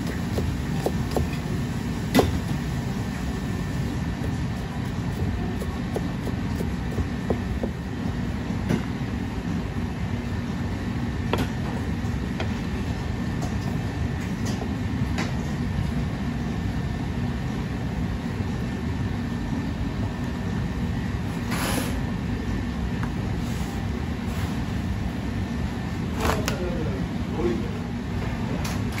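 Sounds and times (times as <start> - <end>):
low mechanical rumble: 0.0 - 29.0.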